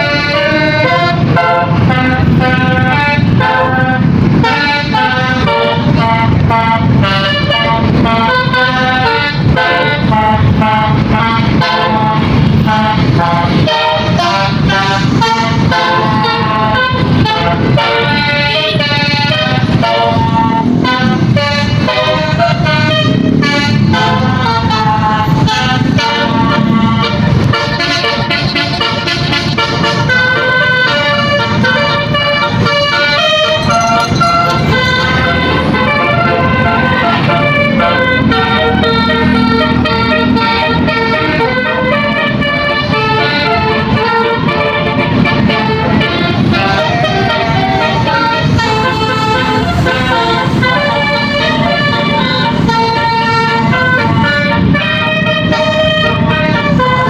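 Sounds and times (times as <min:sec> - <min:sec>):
musical air horns playing a tune: 0:00.0 - 0:57.0.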